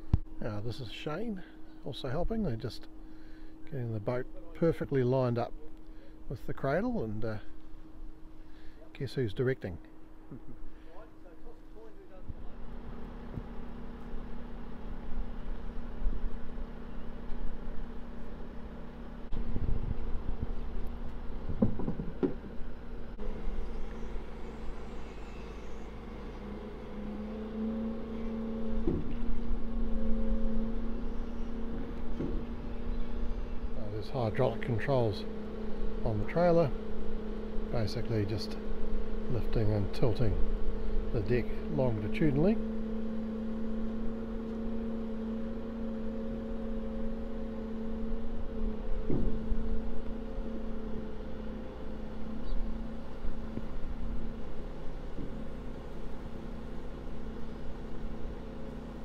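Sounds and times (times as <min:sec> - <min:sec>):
engine running: 0:00.0 - 0:59.0
hydraulics humming: 0:00.0 - 0:59.0.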